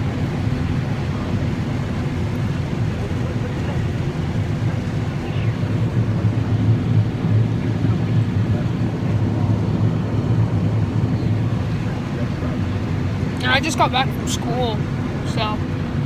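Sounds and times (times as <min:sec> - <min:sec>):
combine harvester low drone: 0:00.0 - 0:16.0.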